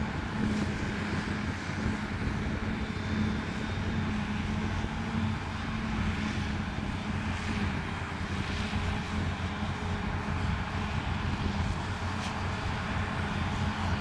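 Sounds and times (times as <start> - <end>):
diesel engine droning: 0.0 - 14.0
wind noise: 0.0 - 14.0.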